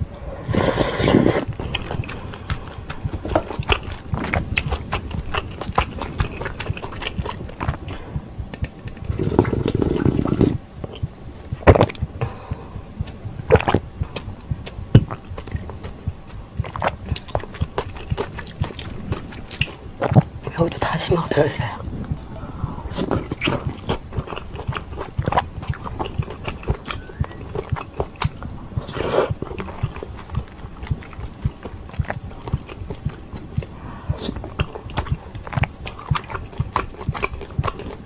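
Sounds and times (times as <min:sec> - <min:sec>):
broth slurping: 0:00.0 - 0:38.0.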